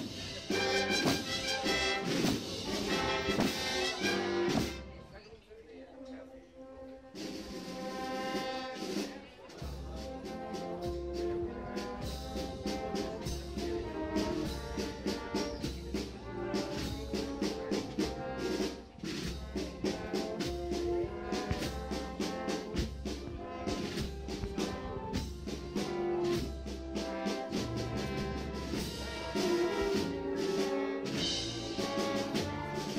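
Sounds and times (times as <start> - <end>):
brass band processional march: 0.0 - 5.2, 6.5 - 32.9
steady drum beat: 0.0 - 5.2, 7.2 - 32.9.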